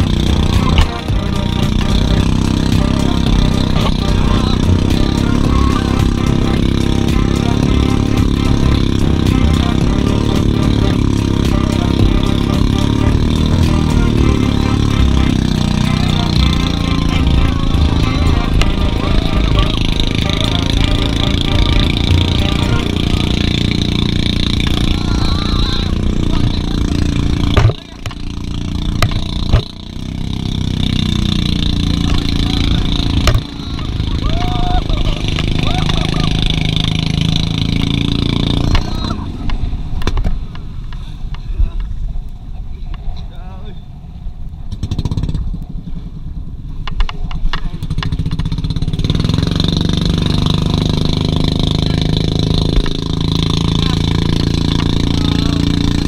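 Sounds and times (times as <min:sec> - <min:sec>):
engine drone: 0:00.0 - 0:56.0.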